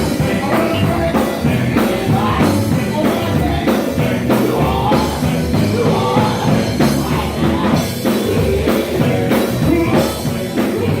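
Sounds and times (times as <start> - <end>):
live gospel band playing: 0.0 - 11.0
people singing: 0.0 - 11.0.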